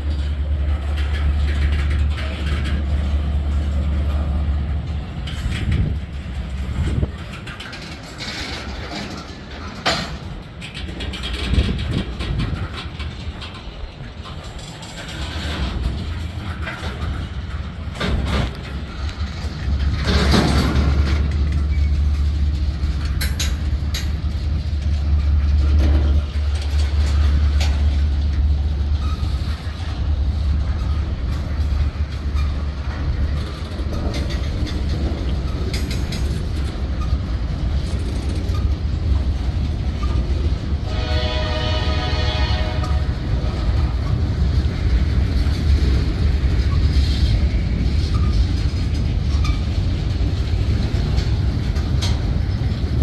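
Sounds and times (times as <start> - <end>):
clanks and rattles: 0.0 - 40.9, 42.7 - 53.0
freight train rumbling past: 0.0 - 53.0.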